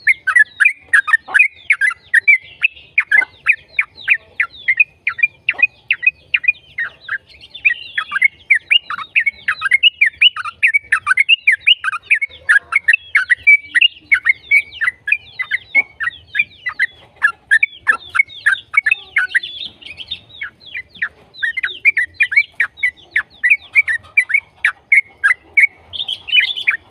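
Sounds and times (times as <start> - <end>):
bird singing whistled notes: 0.0 - 26.9.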